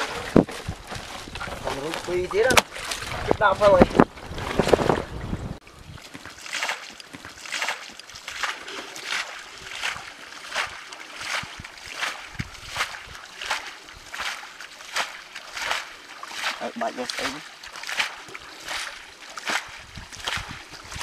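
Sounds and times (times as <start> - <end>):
scraping dry earth: 0.0 - 5.2, 6.1 - 21.0
water stirred in muddy pool: 0.0 - 21.0.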